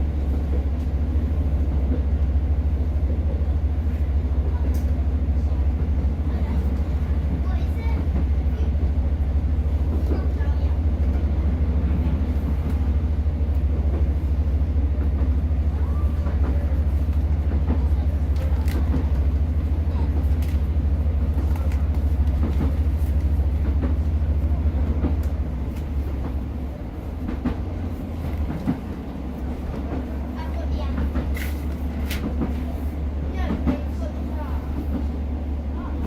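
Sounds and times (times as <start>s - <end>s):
train diesel engine drone: 0.0s - 36.0s.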